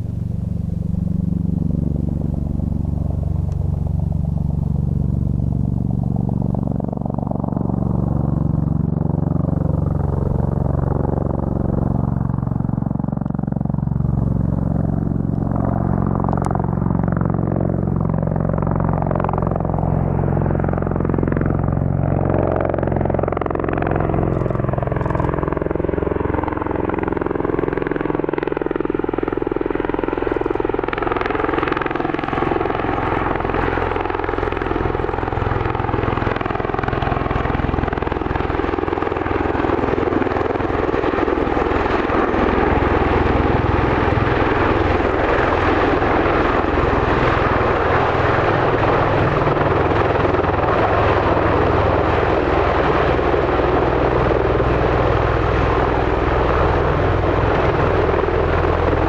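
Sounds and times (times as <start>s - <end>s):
aircraft engines low hum: 0.0s - 59.0s.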